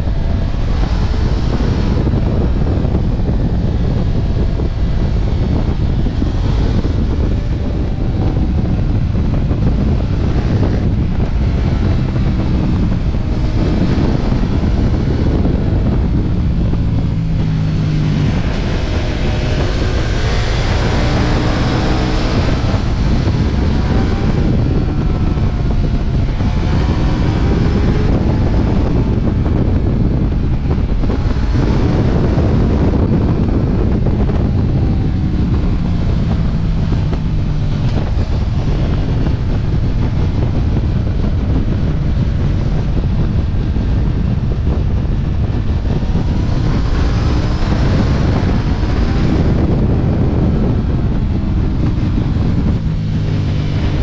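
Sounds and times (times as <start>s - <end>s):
motorcycle engine accelerating: 0.0s - 54.0s
wind buffeting microphone: 0.0s - 54.0s.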